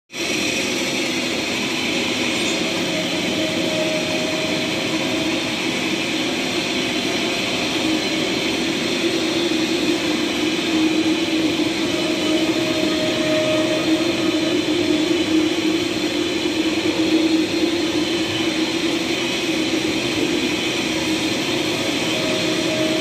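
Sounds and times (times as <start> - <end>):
lathe machine drone: 0.2 - 23.0.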